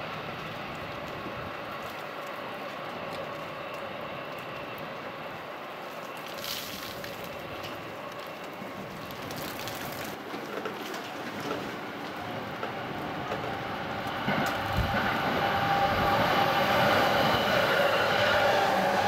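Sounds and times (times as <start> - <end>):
distant electric trains rumbling: 0.0 - 19.0.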